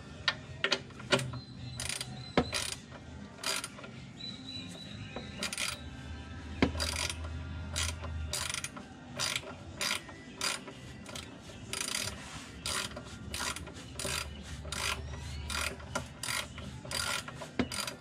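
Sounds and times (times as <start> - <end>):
ratchet wrench clicking: 0.6 - 3.9, 5.4 - 5.8, 6.6 - 18.0.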